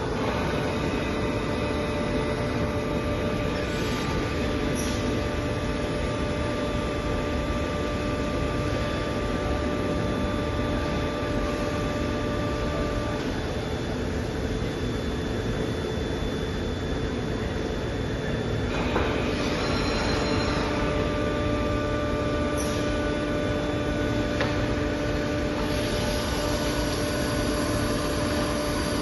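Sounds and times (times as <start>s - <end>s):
milling machine hum: 0.0s - 29.0s.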